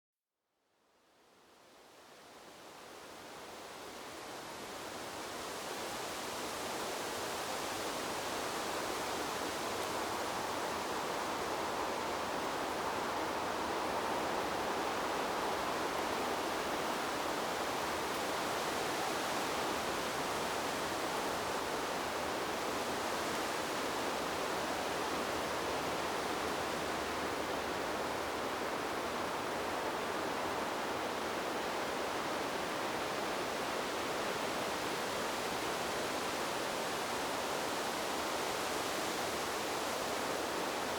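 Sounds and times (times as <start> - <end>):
wind rustling bamboo leaves: 1.0 - 40.9.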